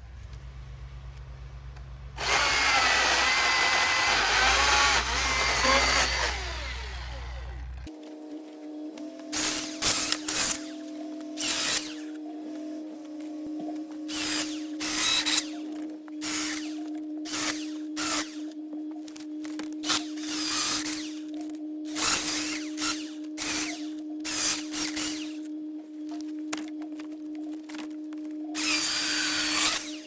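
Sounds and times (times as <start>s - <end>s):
electric motor running: 2.2s - 30.0s
wood being cut: 2.2s - 30.0s.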